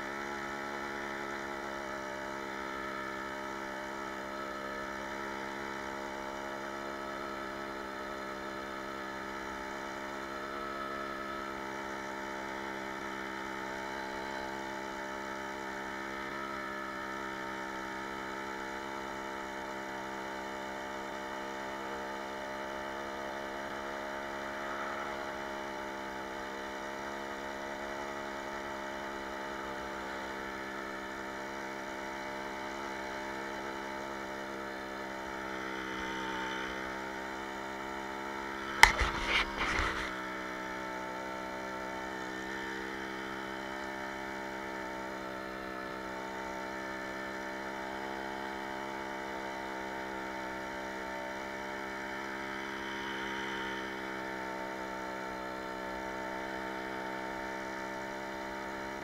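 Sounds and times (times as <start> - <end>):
moped engine running: 0.0 - 59.0.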